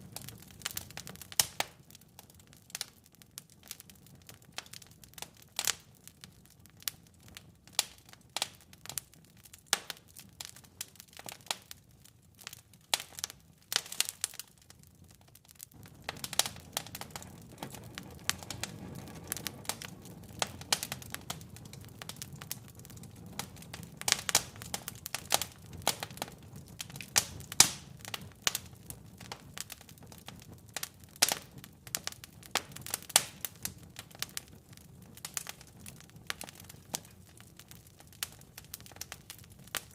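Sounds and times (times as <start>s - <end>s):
low rumble of flames: 0.0s - 39.9s
wood logs crackling and popping: 0.0s - 39.9s.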